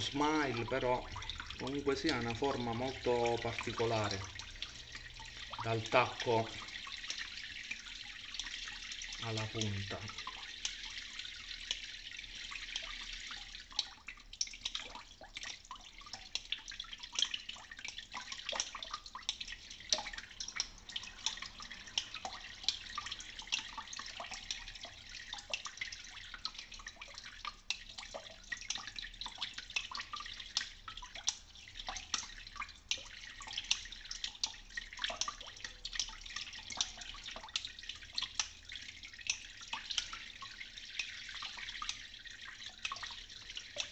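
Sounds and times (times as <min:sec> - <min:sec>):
tap water running: 0:00.0 - 0:43.9.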